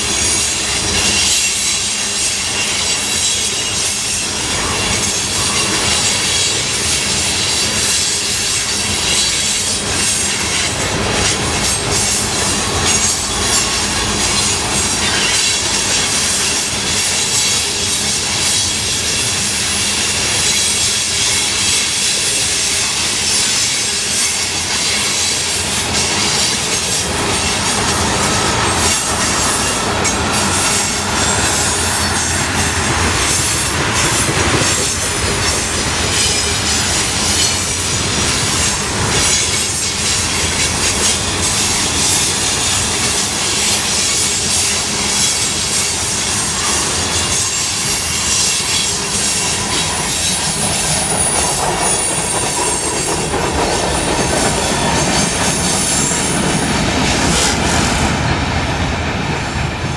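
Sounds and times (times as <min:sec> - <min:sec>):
train wheels rattling on rail: 0:00.0 - 0:59.9
wheels clacking over rail joints: 0:00.0 - 0:59.9.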